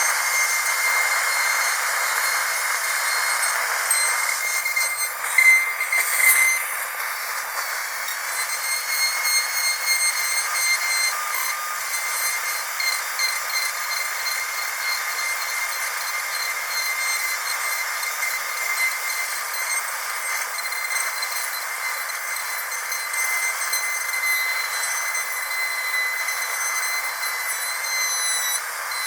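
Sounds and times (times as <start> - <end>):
dentist's drill whining: 0.0 - 29.0.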